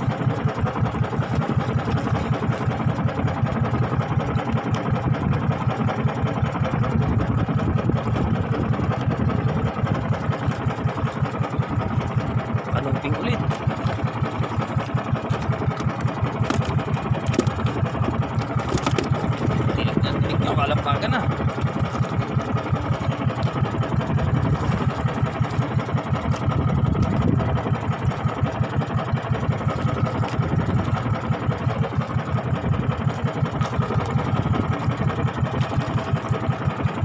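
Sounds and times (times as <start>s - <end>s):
small boat engine running: 0.0s - 37.0s.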